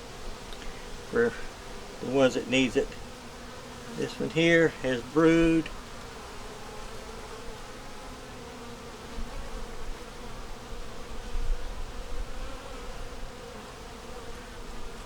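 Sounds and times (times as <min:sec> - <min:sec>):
honey bees buzzing: 0:00.0 - 0:15.0.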